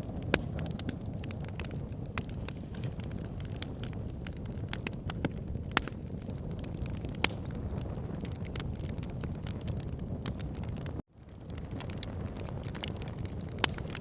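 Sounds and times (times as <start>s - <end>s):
low rumble of fire: 0.0s - 14.0s
wood logs crackling in fireplace: 0.0s - 14.0s.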